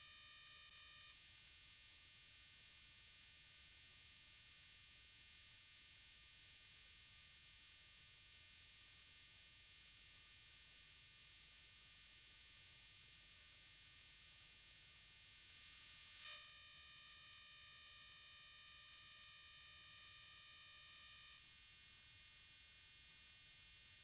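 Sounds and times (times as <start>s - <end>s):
faint hiss and electronic hum: 0.0s - 24.0s.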